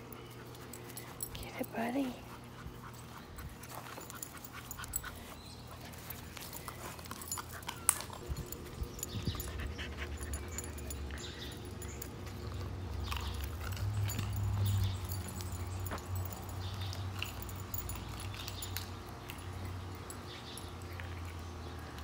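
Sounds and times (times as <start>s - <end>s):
dogs panting and snuffling: 0.0s - 22.0s.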